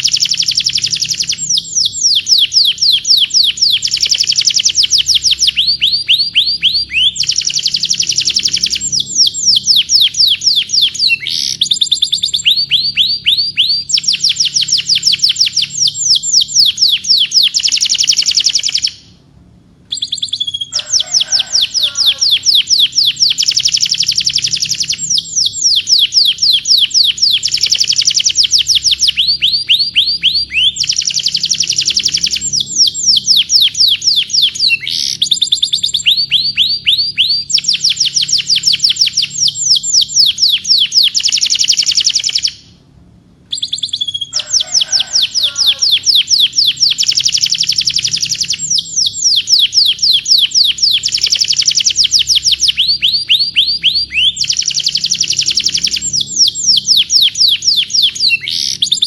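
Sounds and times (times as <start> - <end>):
canary singing trills: 0.0 - 19.2, 19.9 - 42.8, 43.5 - 59.0.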